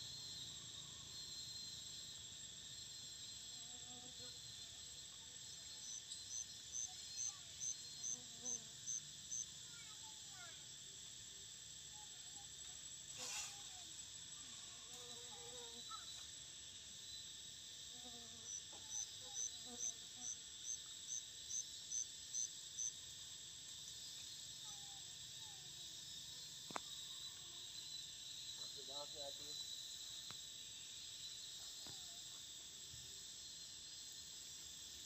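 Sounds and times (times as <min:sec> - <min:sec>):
insect chorus: 0:00.0 - 0:35.0.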